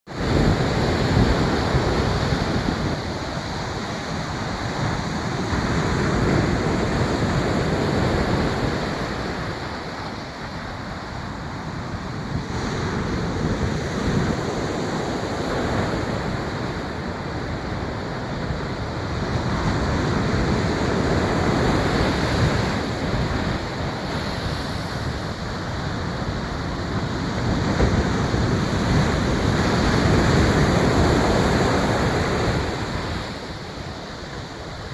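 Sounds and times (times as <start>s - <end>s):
ocean waves breaking on shore: 0.1s - 34.9s.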